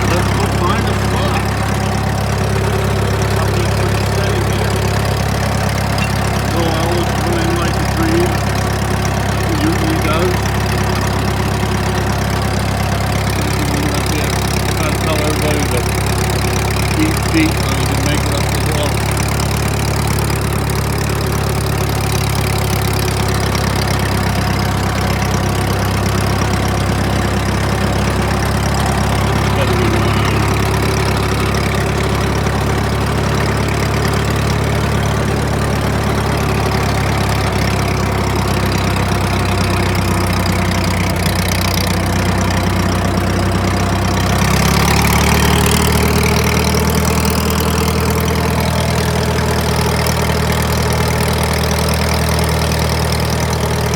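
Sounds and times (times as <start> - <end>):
truck engine running: 0.0 - 53.9.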